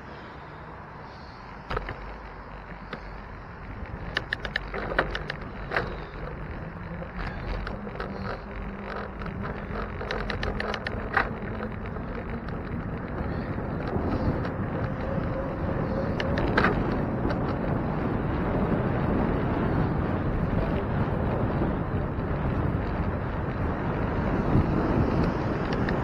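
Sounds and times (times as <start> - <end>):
road noise: 0.0 - 26.0
bicycle clicks and rattles: 1.1 - 26.0
wind on microphone: 1.7 - 26.0.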